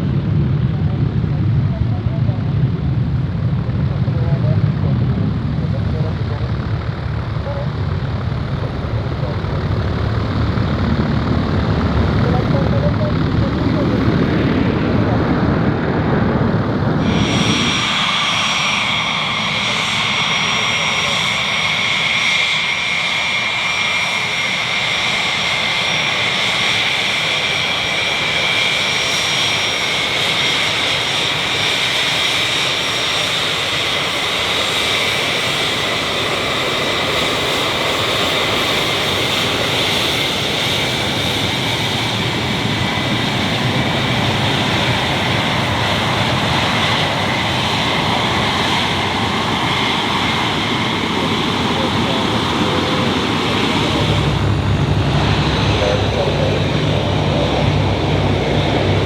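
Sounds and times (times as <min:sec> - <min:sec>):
high engine whine: 0:00.0 - 0:59.0
jet engines rushing: 0:00.0 - 0:59.0.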